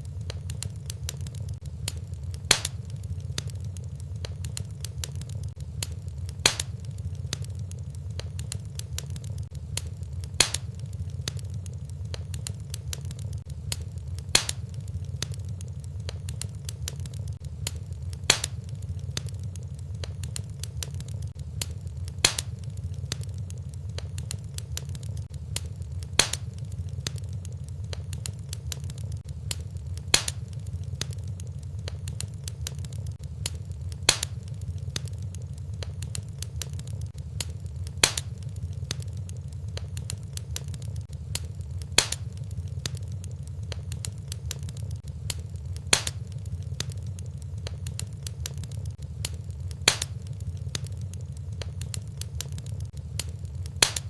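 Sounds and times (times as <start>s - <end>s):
fire crackling and rumbling: 0.0s - 54.0s
sharp fire pop: 0.2s - 7.5s, 8.2s - 39.1s, 39.7s - 43.1s, 43.7s - 54.0s.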